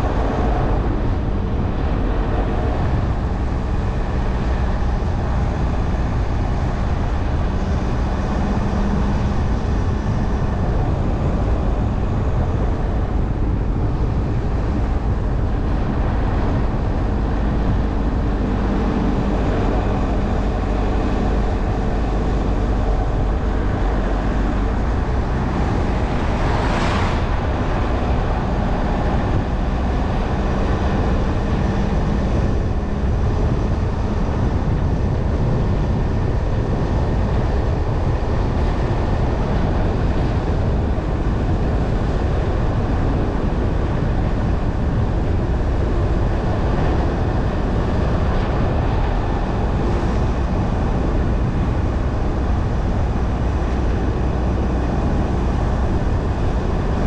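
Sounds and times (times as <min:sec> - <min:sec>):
low engine hum: 0:00.0 - 0:57.0
tyre and road noise: 0:00.0 - 0:57.0.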